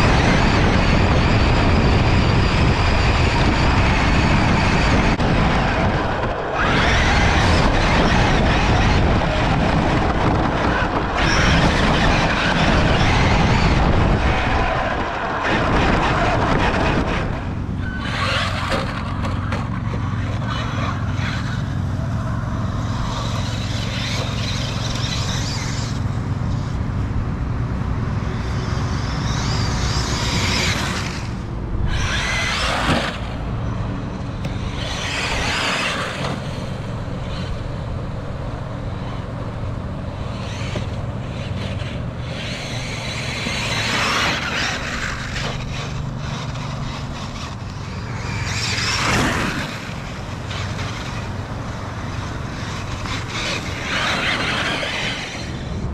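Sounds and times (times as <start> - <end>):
rc truck motor rushing: 0.0 - 55.9.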